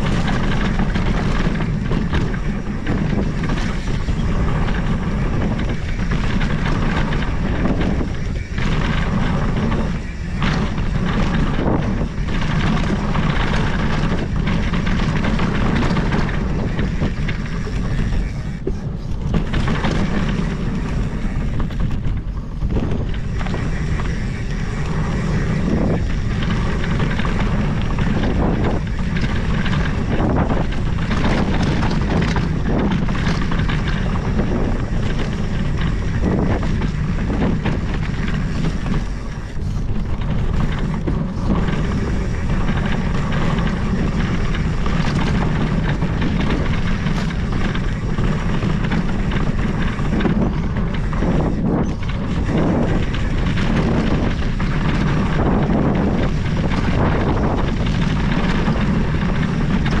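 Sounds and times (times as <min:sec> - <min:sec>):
bike knocks and rattles: 0:00.0 - 1:00.0
rumble of tyres on dirt: 0:00.0 - 1:00.0
wind buffeting microphone: 0:00.0 - 1:00.0.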